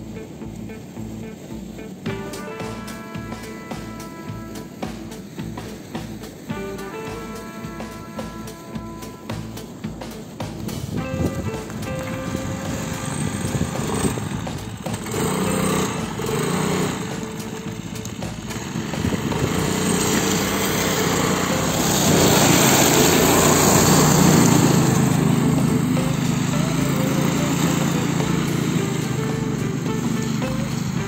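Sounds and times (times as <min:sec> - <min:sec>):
small engine running: 0:00.0 - 0:31.0.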